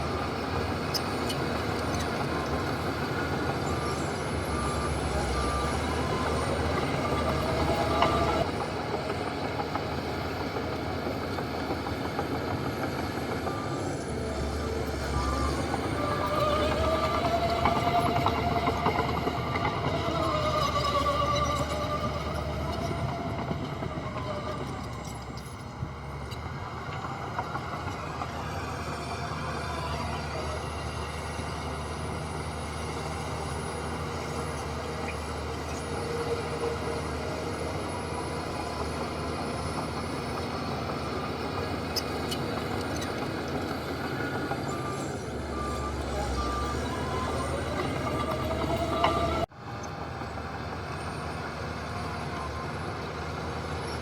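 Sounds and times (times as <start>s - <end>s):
heavy diesel machinery running: 0.0s - 54.0s
reversing alarm beeps: 0.2s - 10.7s, 11.8s - 49.5s.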